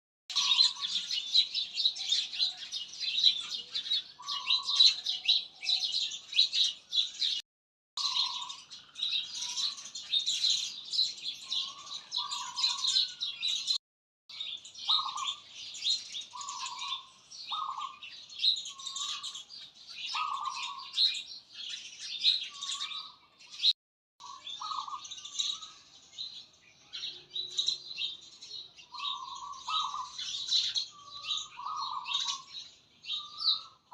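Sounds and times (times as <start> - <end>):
birds chirping: 0.3 - 7.4, 8.0 - 33.9.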